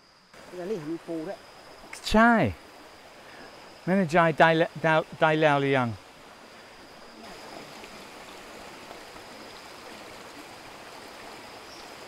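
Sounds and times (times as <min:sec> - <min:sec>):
thin steady high tone: 0:00.0 - 0:12.0
mountain stream rushing: 0:00.4 - 0:12.0.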